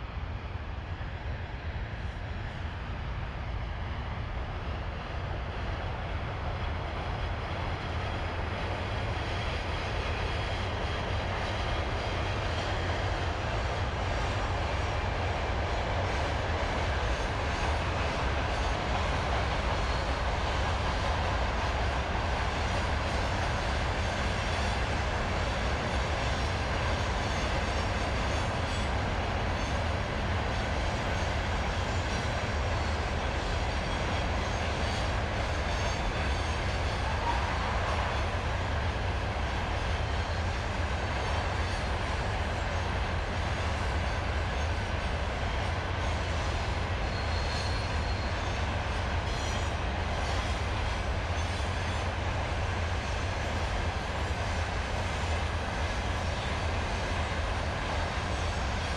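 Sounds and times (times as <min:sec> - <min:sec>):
freight train rumbling on rails: 0:00.0 - 0:58.9.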